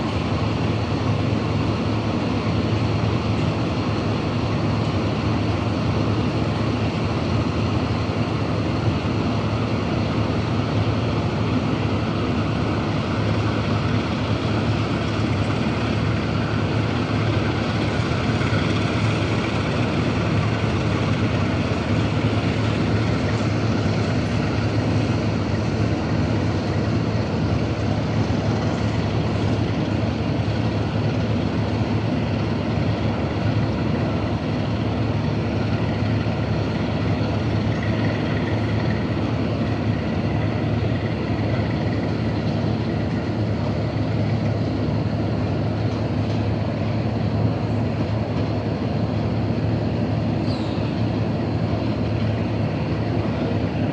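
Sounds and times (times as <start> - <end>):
diesel locomotive engine droning: 0.0 - 53.9.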